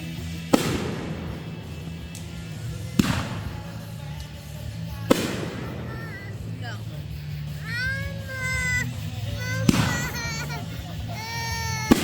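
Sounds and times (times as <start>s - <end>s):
background music: 0.0s - 12.0s
firework shells bursting: 0.3s - 12.0s.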